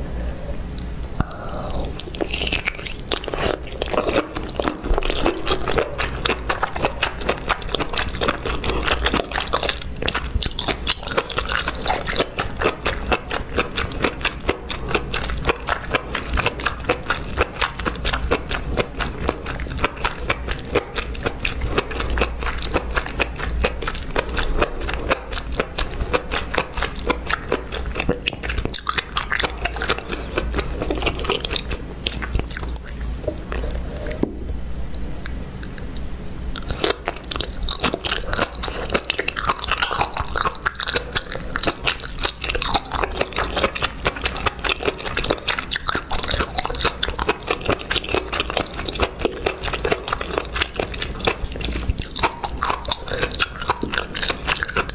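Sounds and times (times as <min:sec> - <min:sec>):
close chewing crunches: 0:00.7 - 0:34.3, 0:34.9 - 0:54.9.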